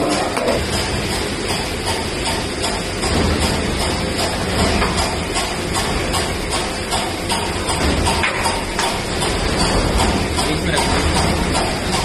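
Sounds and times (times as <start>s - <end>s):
machine clattering: 0.0s - 12.0s.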